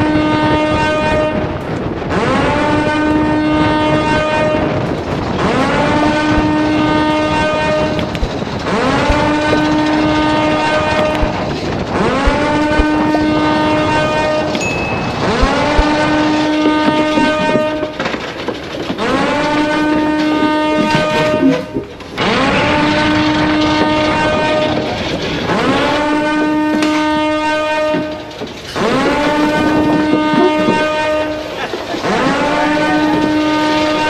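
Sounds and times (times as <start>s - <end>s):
emergency alarm horn blasts: 0.0s - 18.2s, 19.0s - 34.0s.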